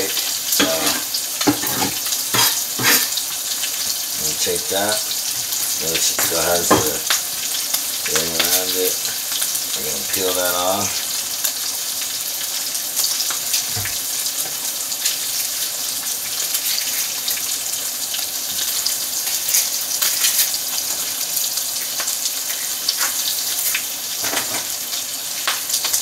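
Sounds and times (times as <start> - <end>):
steak sizzling in a pan: 0.0 - 26.0.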